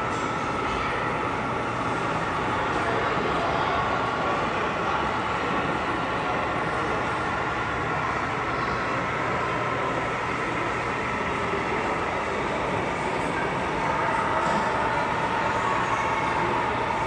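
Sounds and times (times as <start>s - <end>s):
large hall noise: 0.0s - 17.0s
model trains running: 0.0s - 17.0s.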